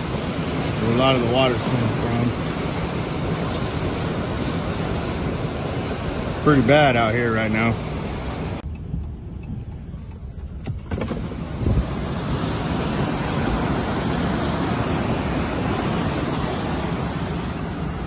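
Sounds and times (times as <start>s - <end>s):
floodwater rushing: 0.0s - 8.6s, 10.8s - 18.0s.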